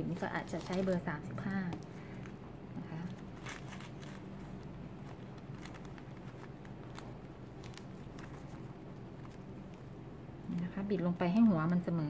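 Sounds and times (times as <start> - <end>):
stiff fabric crinkling: 0.0 - 11.8
low steady hum: 0.0 - 12.0.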